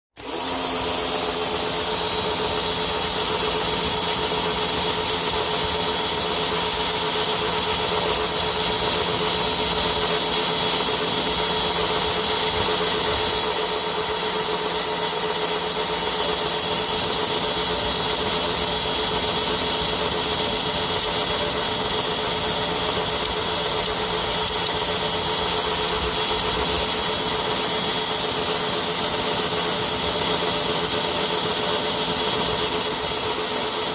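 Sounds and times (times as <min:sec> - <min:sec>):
pressure washer motor hum: 0:00.1 - 0:33.9
water jet spraying: 0:00.2 - 0:33.9.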